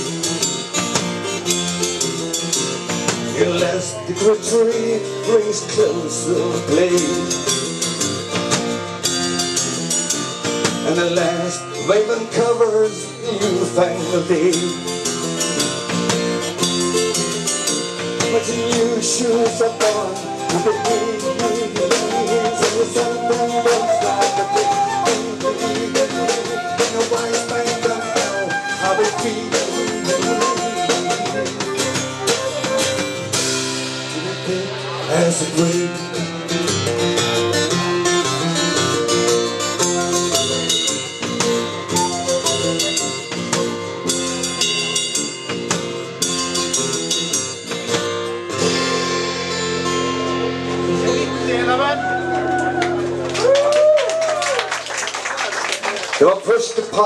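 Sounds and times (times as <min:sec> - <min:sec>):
busy drumming: 0:00.0 - 0:57.0
live rock band: 0:00.0 - 0:57.0.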